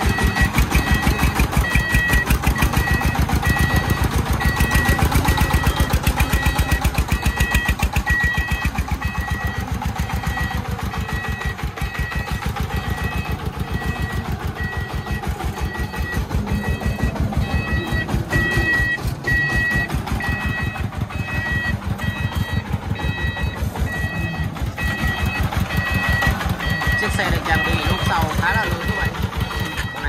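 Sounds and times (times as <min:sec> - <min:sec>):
diesel engine chugging: 0:00.0 - 0:30.0
reversing alarm beeping: 0:00.0 - 0:30.0.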